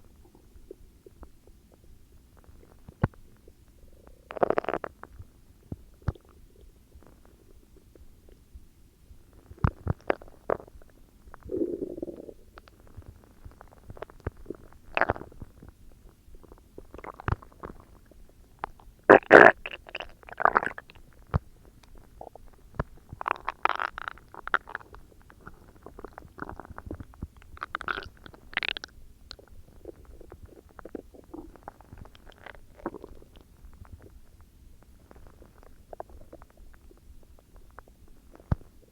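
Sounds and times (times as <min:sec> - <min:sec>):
stomach growling: 0:03.8 - 0:08.4, 0:09.4 - 0:38.9.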